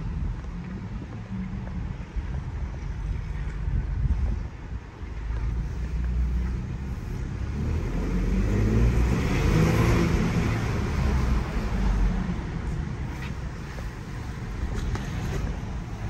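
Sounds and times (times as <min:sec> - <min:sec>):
tyres on wet pavement: 0:00.0 - 0:16.0.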